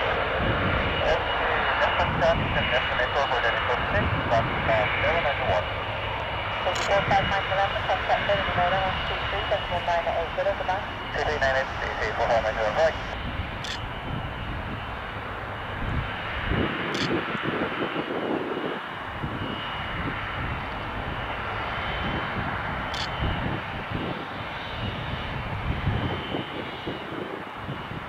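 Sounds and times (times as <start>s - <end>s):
jet engines rumbling with whine: 0.0s - 28.0s.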